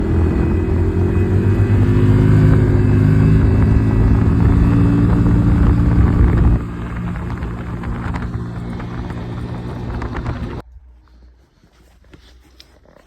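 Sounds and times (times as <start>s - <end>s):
machine rumble with low hum: 0.0s - 10.6s.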